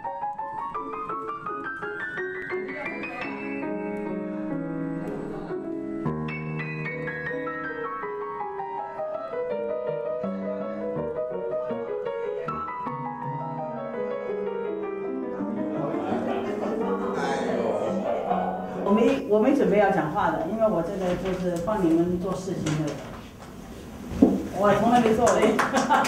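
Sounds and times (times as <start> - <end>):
solo piano playing: 0.0 - 20.9.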